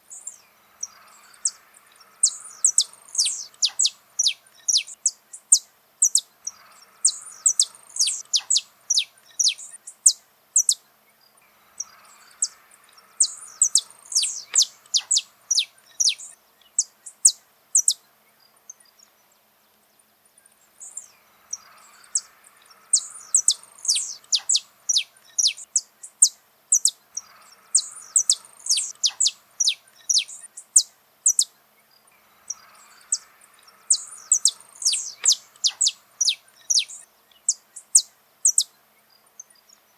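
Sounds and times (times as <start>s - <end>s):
finch singing: 0.1s - 19.4s, 20.5s - 39.9s.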